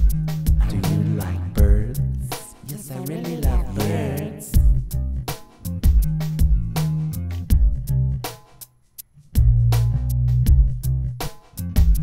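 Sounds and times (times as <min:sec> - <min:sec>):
song with drums and bass: 0:00.0 - 0:12.0.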